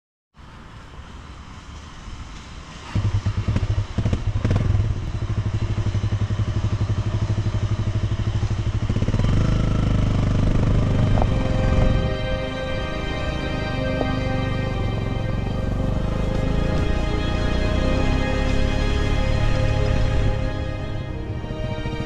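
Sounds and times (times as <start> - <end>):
motorcycle engine running: 2.8 - 22.0.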